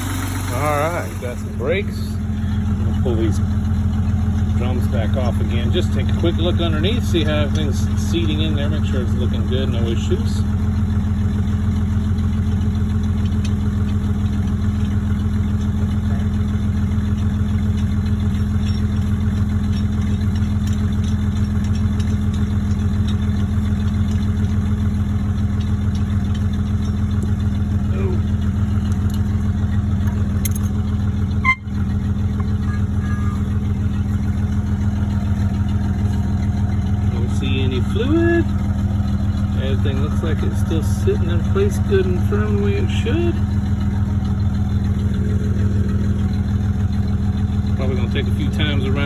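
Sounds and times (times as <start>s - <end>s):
pickup engine running steadily: 0.0s - 49.0s.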